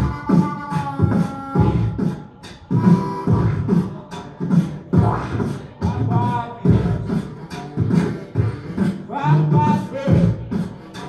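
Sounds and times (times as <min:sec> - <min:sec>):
beatboxing: 0:00.0 - 0:11.0
held melodic vocal tones: 0:00.0 - 0:11.0.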